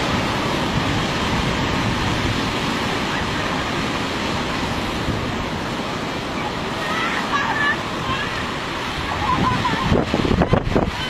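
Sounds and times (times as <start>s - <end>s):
surf breaking on a beach: 0.0s - 11.0s
wind rumbling on microphone: 0.0s - 11.0s.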